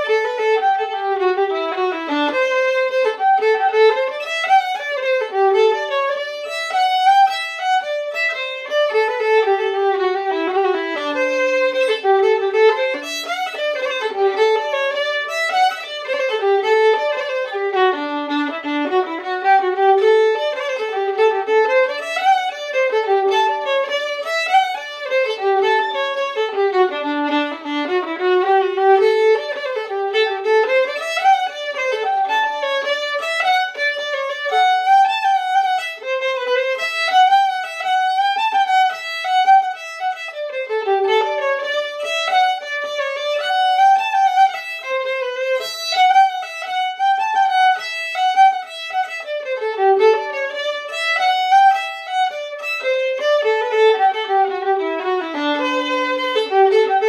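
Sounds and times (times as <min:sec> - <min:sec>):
solo fiddle folk tune: 0:00.0 - 0:57.0.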